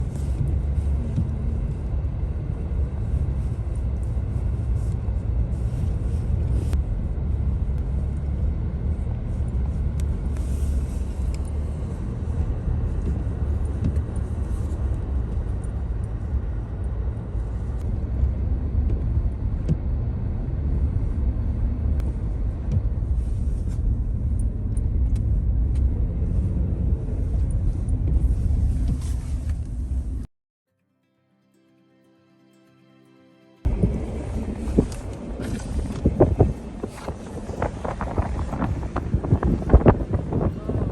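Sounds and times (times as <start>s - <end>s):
car engine and tyres rumbling: 0.0s - 30.3s, 33.6s - 40.9s.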